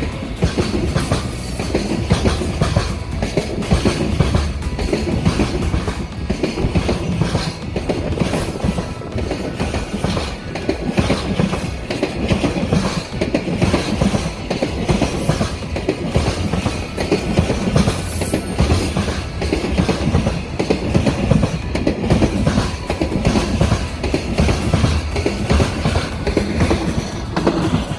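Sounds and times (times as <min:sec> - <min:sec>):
train wheels clattering over rail joints: 0:00.0 - 0:27.9.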